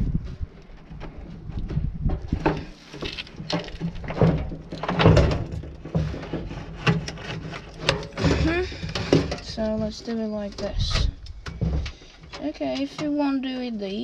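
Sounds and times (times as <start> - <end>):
tools clunking and scraping: 0.7 - 14.0.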